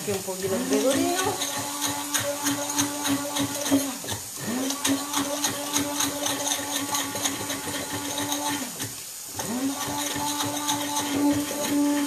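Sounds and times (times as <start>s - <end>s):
electric blender whirring: 0.0s - 12.0s.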